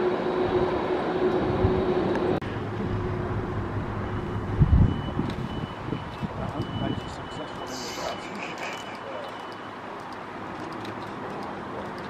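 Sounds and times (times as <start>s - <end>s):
distant jet engines whining: 0.0s - 12.0s.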